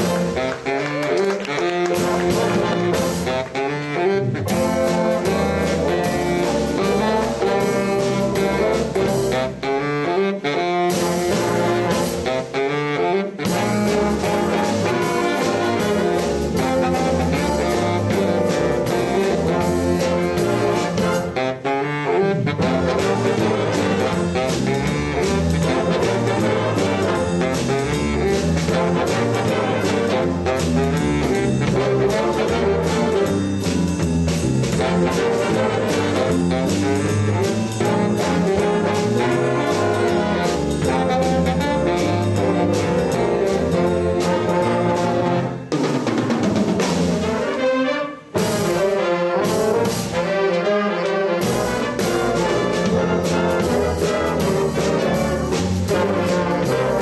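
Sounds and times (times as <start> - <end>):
baritone saxophone: 0.0 - 45.7, 46.8 - 57.0
brass section: 0.0 - 57.0
drum kit: 0.0 - 57.0.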